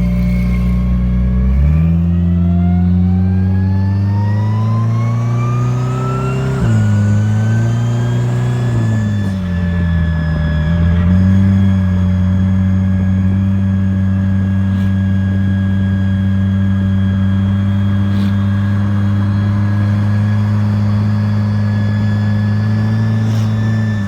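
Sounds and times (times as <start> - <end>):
car engine low drone: 0.0 - 24.0.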